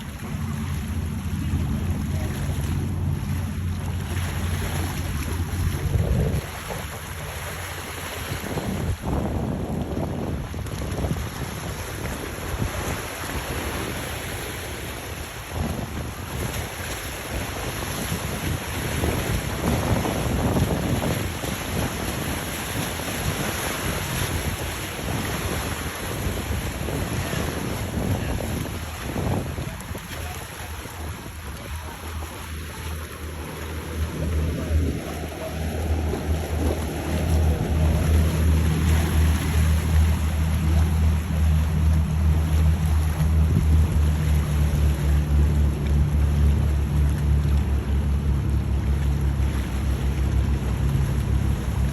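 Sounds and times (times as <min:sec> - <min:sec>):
boats rumbling past: 0:00.0 - 0:51.9
waves washing: 0:00.0 - 0:51.9
wind buffeting microphone: 0:00.0 - 0:51.9.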